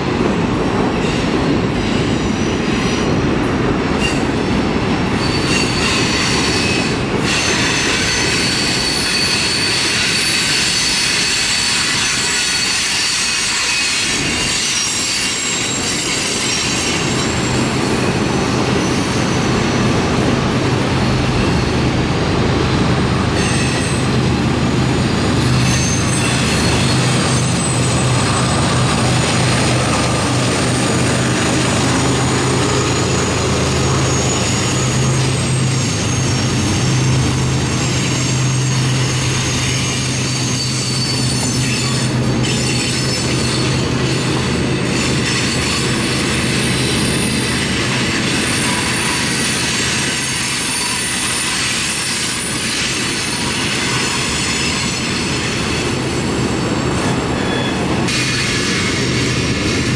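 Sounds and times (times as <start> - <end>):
train wheels rumbling on rail: 0.0 - 59.9
high wheel squeal: 5.1 - 22.1, 23.0 - 59.9.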